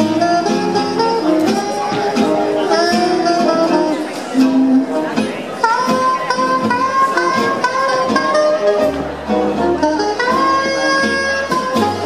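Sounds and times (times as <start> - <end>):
swing jazz music: 0.0 - 12.0.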